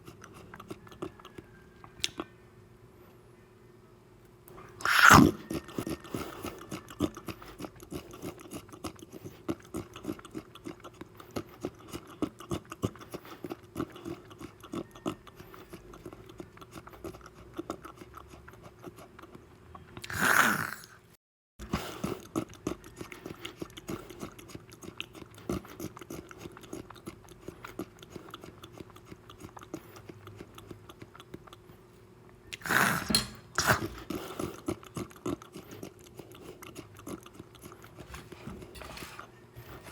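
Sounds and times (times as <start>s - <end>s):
wet chewing: 0.0s - 2.3s, 4.8s - 20.8s, 21.6s - 31.8s, 32.5s - 38.7s.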